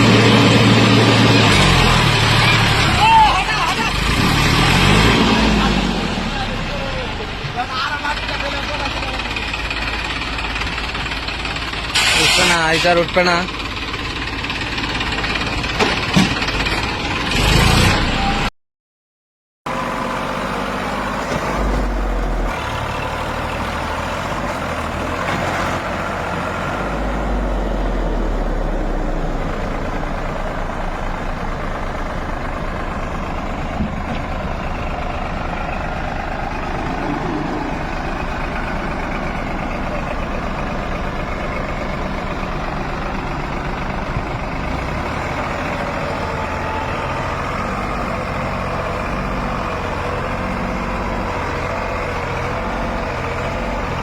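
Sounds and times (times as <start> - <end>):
diesel truck engine under load: 0.0 - 18.5, 19.7 - 54.0.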